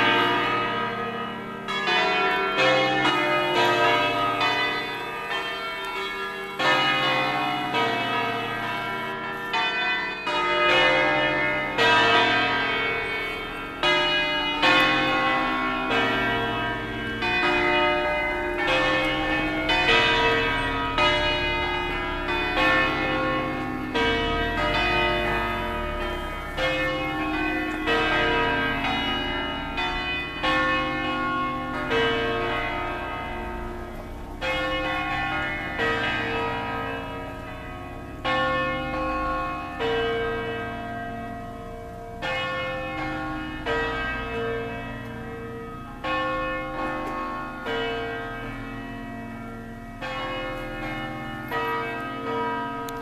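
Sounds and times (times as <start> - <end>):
church bells pealing: 0.0 - 53.0.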